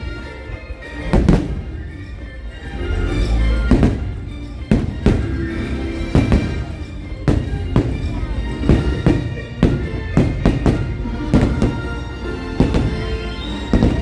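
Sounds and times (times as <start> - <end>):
fireworks show music: 0.0 - 14.0.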